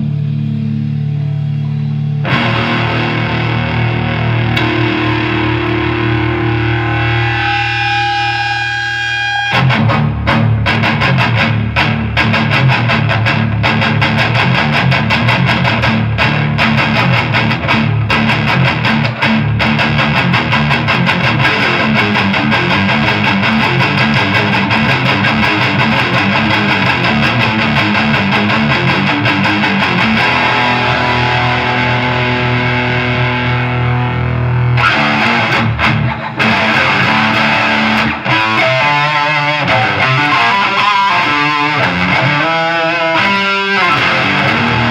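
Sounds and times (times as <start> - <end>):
distorted electric guitar riffing: 0.0 - 44.9.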